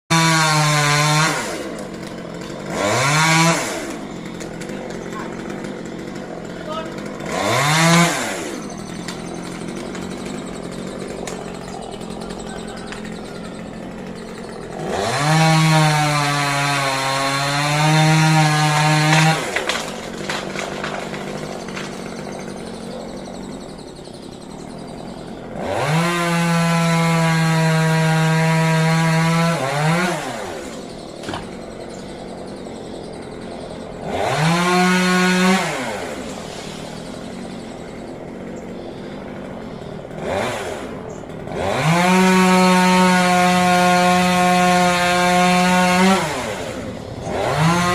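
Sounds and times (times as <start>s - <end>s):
chainsaw revving and idling: 0.1s - 47.9s.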